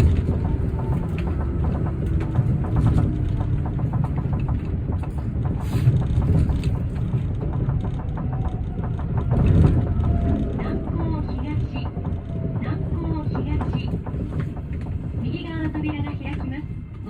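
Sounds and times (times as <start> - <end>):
rattling ticks over track: 0.0 - 17.0
train rumbling on guideway: 0.0 - 17.0.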